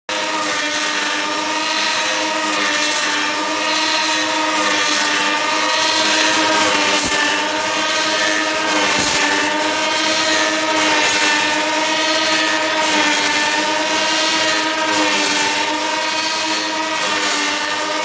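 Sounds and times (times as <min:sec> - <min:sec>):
lathe whining: 0:00.1 - 0:18.0.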